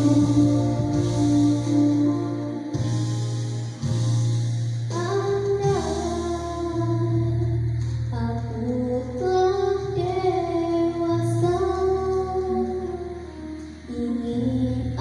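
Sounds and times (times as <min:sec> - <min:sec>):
girl singing into a microphone: 0:00.0 - 0:02.9, 0:04.9 - 0:15.0
instrumental backing track: 0:00.0 - 0:15.0.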